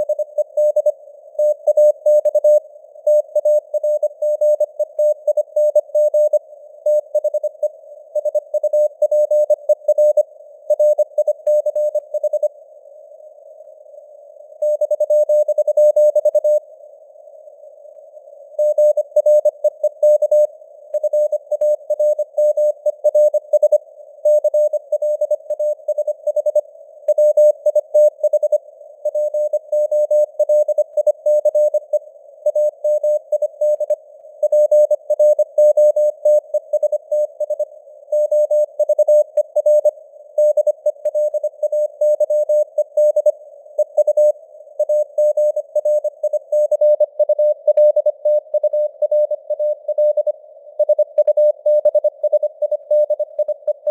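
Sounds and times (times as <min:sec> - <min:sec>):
receiver hiss: 0:00.0 - 0:53.9.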